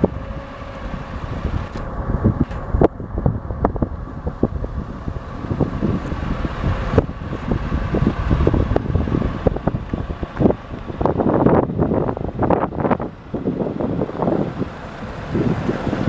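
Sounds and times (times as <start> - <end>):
diesel truck engine running: 0.0 - 16.0
wind buffeting microphone: 0.0 - 16.0.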